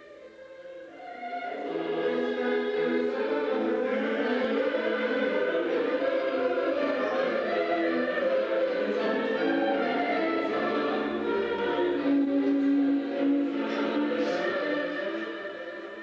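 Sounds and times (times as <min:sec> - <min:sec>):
choral music with orchestra: 0:00.0 - 0:16.0.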